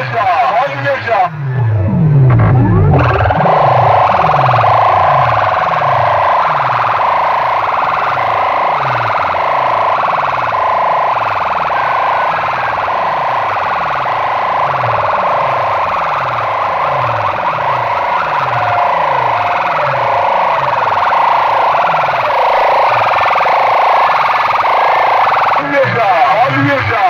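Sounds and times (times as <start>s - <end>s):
siren-like electronic music: 0.0s - 27.0s.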